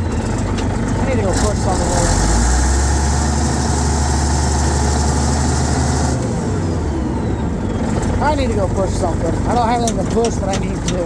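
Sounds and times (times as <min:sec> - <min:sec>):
dozer diesel engine revving: 0:00.0 - 0:11.0.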